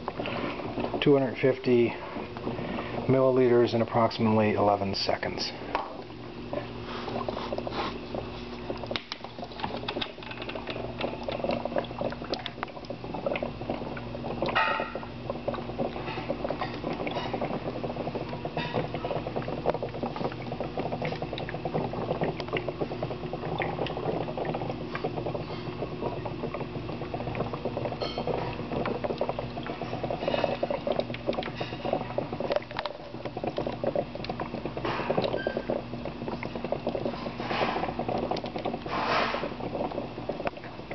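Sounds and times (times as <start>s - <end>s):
electrolyte fizzing and bubbling: 0.0s - 40.9s
steady low hum: 0.0s - 40.9s.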